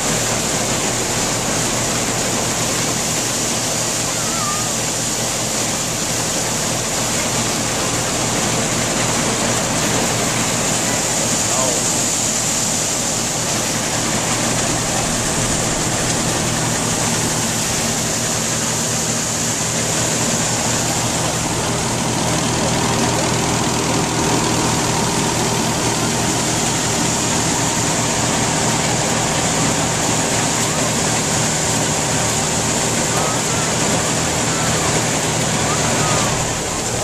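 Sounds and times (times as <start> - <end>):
corn sheller machinery: 0.0 - 37.0
tractor engine running: 0.0 - 37.0.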